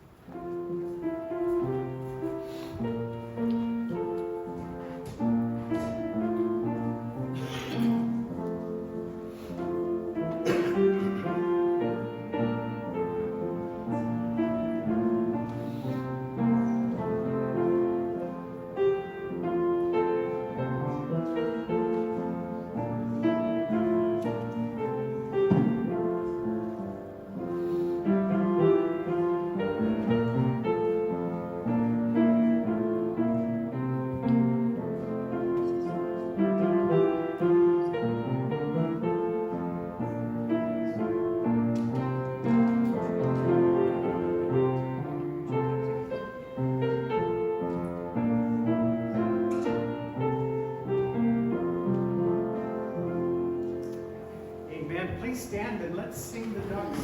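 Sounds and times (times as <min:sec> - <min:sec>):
piano music: 0:00.0 - 0:57.0.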